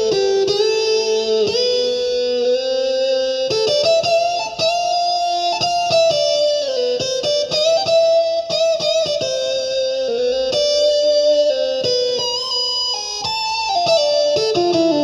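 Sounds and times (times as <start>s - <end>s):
keyboard playing plucked guitar-like melody: 0.0s - 15.0s.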